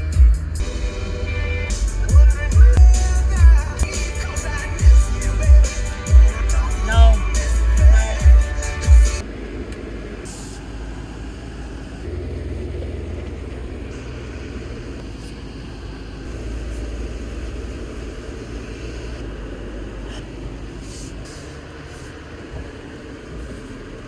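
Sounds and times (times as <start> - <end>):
engine and tyre rumble: 0.0 - 24.0.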